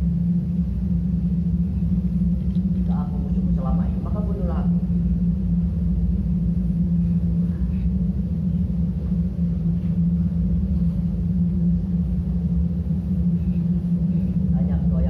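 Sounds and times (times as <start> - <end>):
deep rumble: 0.0 - 15.0
loud low drone: 0.0 - 15.0.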